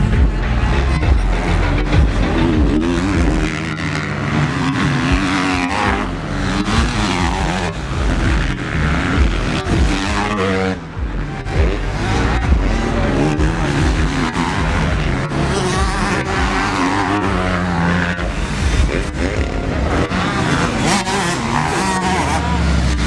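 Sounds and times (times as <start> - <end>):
racing motorcycle engines revving: 0.0 - 23.0.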